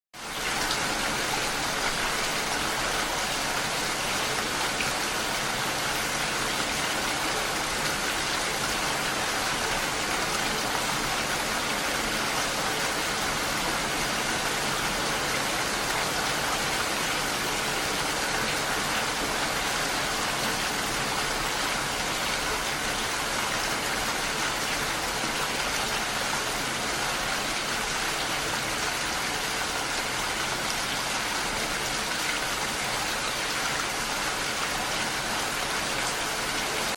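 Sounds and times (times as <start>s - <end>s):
steady rain pattering: 0.2s - 36.9s.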